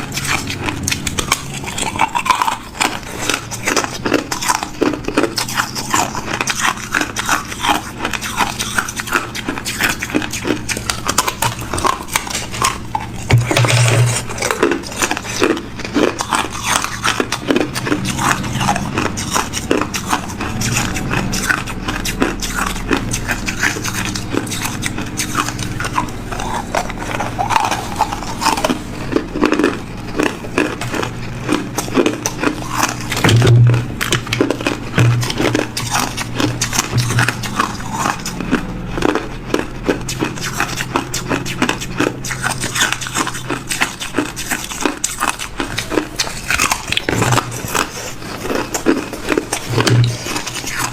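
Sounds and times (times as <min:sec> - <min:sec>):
ice being chewed: 0:00.0 - 0:50.9.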